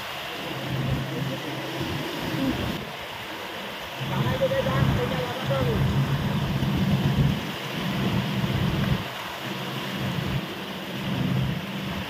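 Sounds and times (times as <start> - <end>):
motorboat engine droning: 0.0 - 12.0
rushing water: 0.0 - 12.0
wind on microphone: 0.0 - 12.0.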